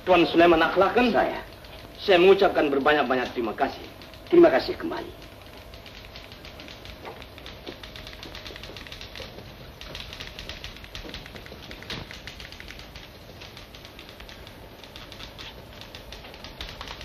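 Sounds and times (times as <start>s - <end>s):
old film crackle and hiss: 0.0s - 17.0s.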